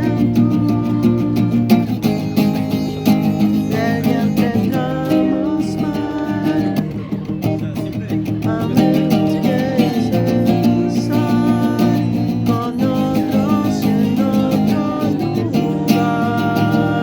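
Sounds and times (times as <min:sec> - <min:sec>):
person singing: 0:00.0 - 0:02.1, 0:03.4 - 0:17.0
acoustic guitar strumming: 0:00.0 - 0:17.0.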